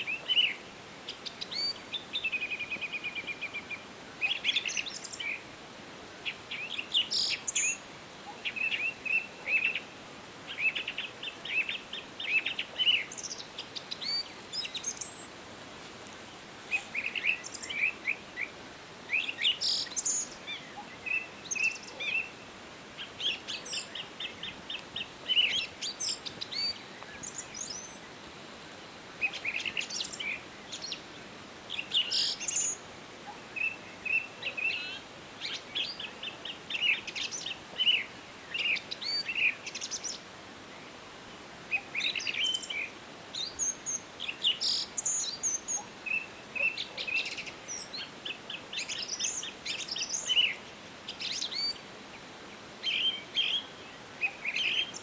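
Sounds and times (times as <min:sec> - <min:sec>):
faint background hiss: 0:00.0 - 0:55.0
songbirds chirping and trilling: 0:00.0 - 0:55.0.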